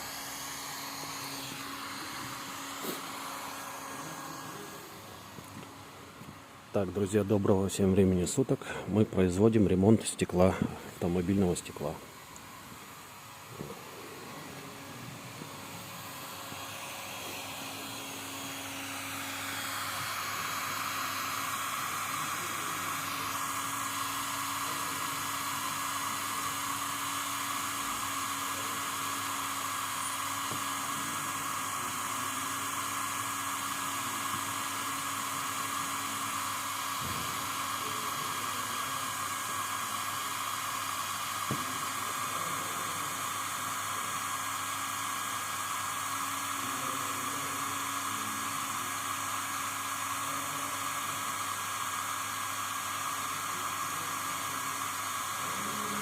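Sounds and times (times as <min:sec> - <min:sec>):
faint motor hum: 0:00.0 - 0:50.7
hot-air blower whooshing: 0:00.0 - 0:56.0.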